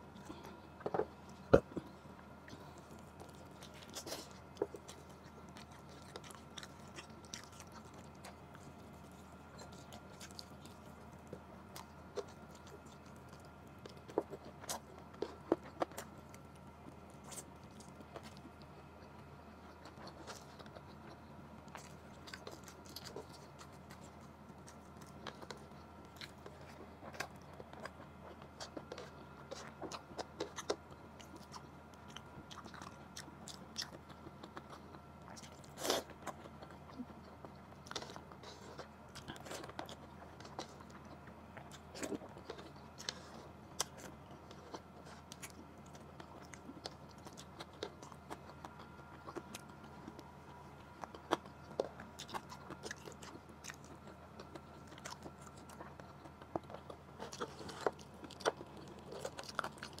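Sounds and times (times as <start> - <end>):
chewing: 0.0 - 60.0
faint steady hum: 0.0 - 60.0.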